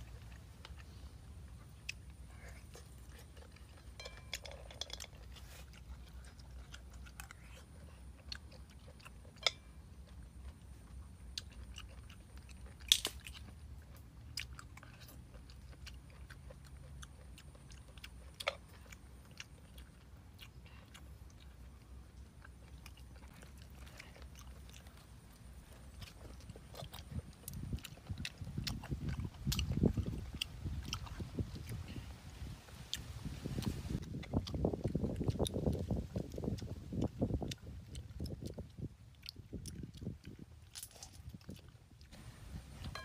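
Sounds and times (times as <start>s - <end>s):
person chewing: 0.0s - 43.0s.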